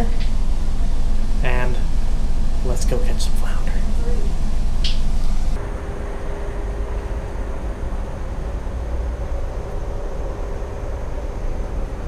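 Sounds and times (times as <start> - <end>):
faint continuous hum: 0.0 - 12.0
low rumble: 0.0 - 12.0.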